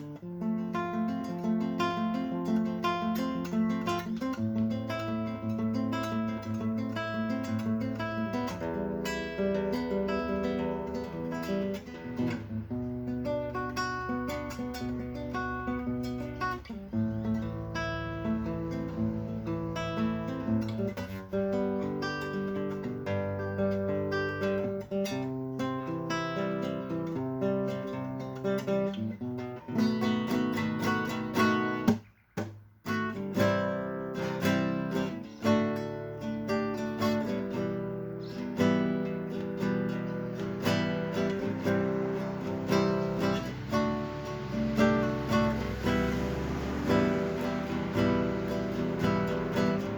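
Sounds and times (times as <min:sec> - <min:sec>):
acoustic guitar music: 0:00.0 - 0:49.9.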